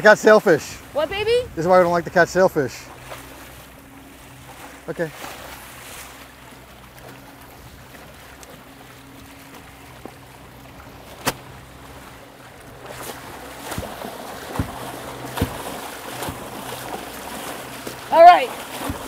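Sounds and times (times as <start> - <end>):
outboard motor idling: 0.0 - 19.0
water splashing against hull: 0.0 - 19.0.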